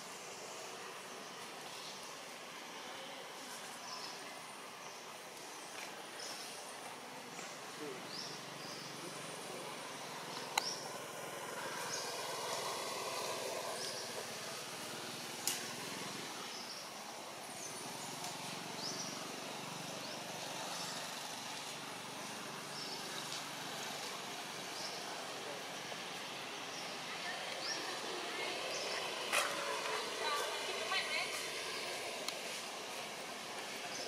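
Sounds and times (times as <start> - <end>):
steady background noise: 0.0 - 34.0.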